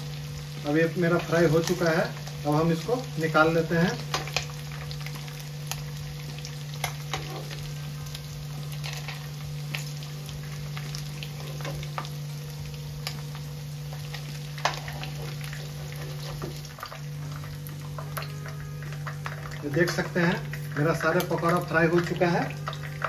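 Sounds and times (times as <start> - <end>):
fish deep-frying in hot oil: 0.0 - 23.0
steady low hum: 0.0 - 23.0.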